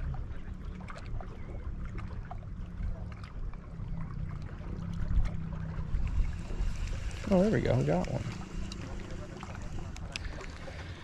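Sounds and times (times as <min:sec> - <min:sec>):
light ticks and splashes: 0:00.0 - 0:11.0
waves lapping against rocks: 0:00.0 - 0:11.0
wind rumbling on microphone: 0:00.0 - 0:11.0.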